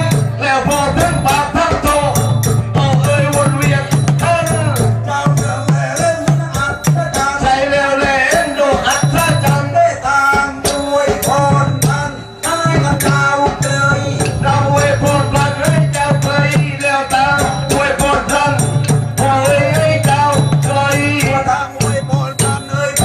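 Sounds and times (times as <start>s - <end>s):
hand drums beating: 0.0s - 23.0s
sharp clicking percussion: 0.0s - 23.0s
wavering melody: 0.0s - 23.0s.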